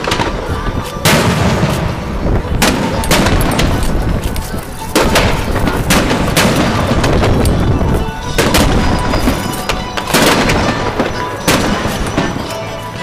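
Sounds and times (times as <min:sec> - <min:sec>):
firework crackling: 0:00.0 - 0:13.0
firework shells bursting: 0:01.0 - 0:13.0.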